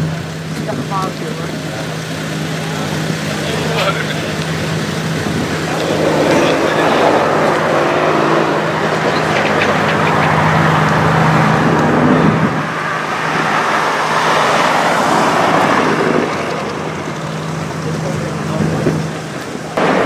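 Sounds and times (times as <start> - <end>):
car engine running: 0.0 - 20.0
street traffic noise: 0.0 - 20.0.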